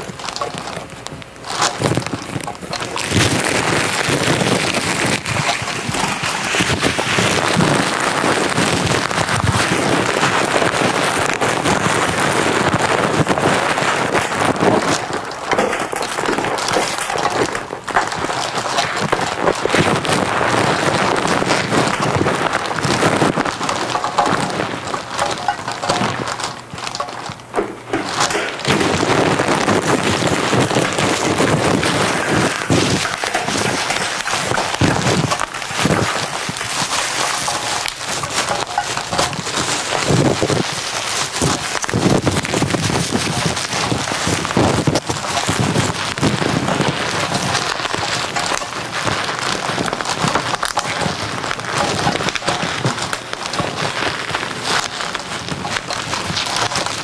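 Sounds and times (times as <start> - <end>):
crumpling plastic and paper waste: 0.0 - 57.0.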